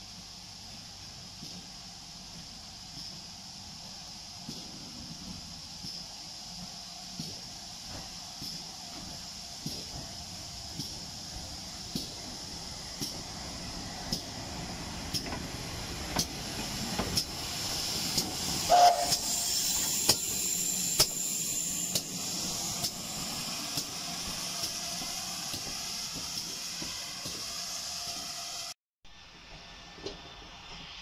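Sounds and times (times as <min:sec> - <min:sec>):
steam hissing: 0:00.0 - 0:28.8.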